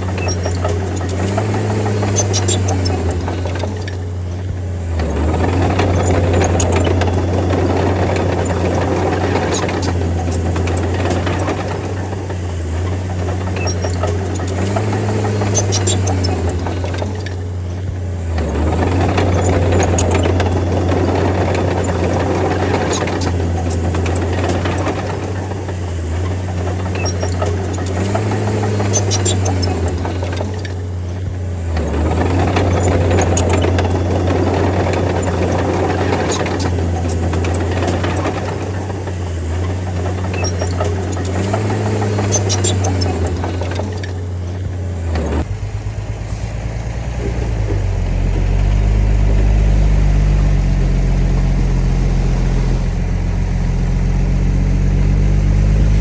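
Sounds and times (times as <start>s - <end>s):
metallic clanks: 0.0s - 53.0s
bulldozer diesel engine under load: 0.0s - 56.0s.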